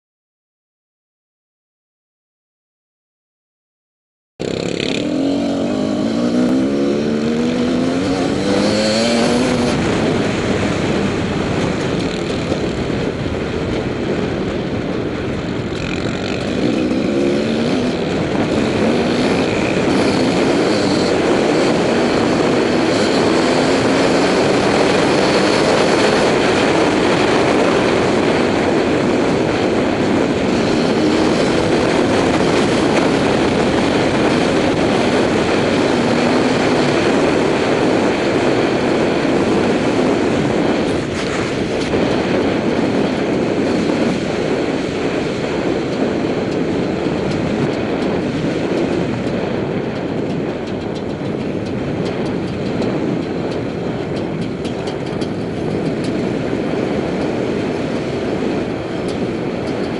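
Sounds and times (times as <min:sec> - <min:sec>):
motorcycle engine revving: 0:04.4 - 0:59.9
wind noise: 0:04.4 - 0:59.9.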